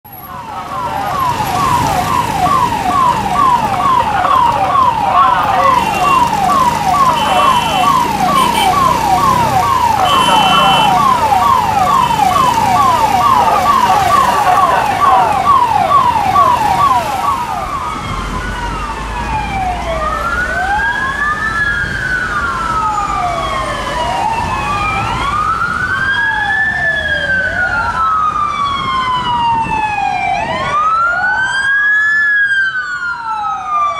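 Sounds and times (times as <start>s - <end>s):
road traffic rumble: 0.0s - 31.5s
ambulance siren yelping and wailing: 0.1s - 33.9s.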